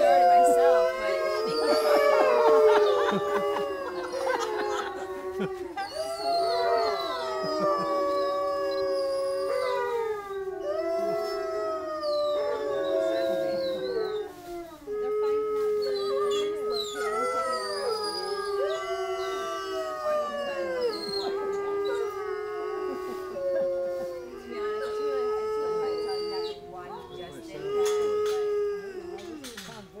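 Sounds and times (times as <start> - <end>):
wolves howling: 0.0 - 30.0.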